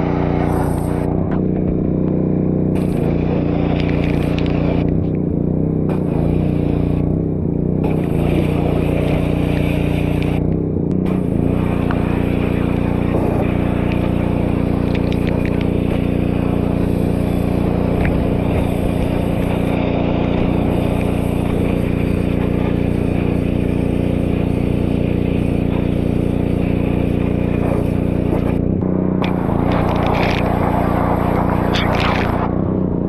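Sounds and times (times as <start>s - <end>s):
pressure washer machine hum: 0.0s - 33.0s
pressure washer spray hiss: 0.3s - 1.1s, 2.8s - 4.8s, 5.9s - 7.0s, 7.8s - 10.4s, 11.1s - 32.4s.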